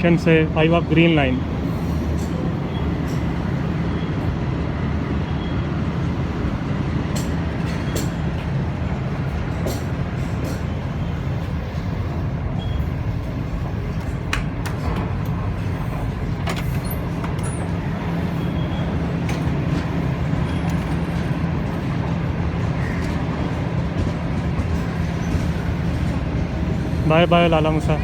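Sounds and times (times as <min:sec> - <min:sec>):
train wheels rumbling on track: 0:00.0 - 0:28.0.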